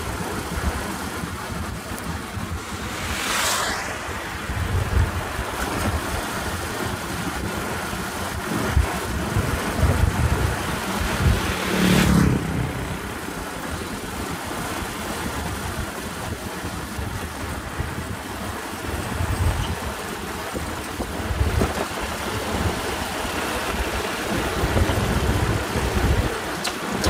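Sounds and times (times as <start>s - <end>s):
wind noise: 0.0s - 27.0s.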